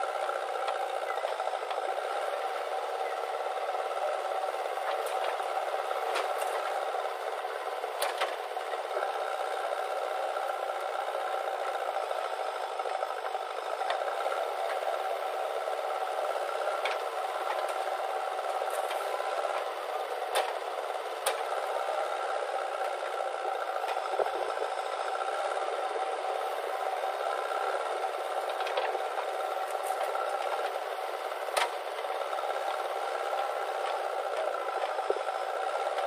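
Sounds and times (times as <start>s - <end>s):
diesel engine and hydraulics: 0.0s - 36.0s.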